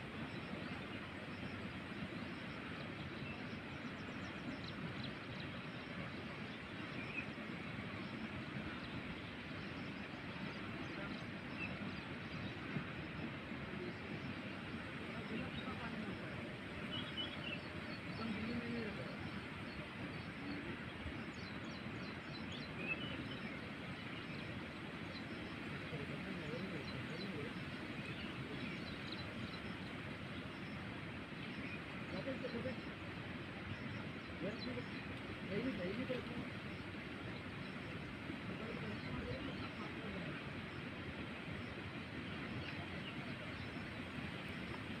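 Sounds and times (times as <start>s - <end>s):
outdoor rumble and hiss: 0.0s - 45.0s.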